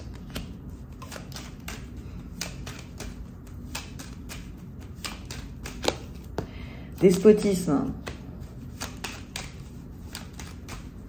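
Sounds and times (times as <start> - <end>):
cards clicking and snapping: 0.0 - 6.6, 8.0 - 11.0.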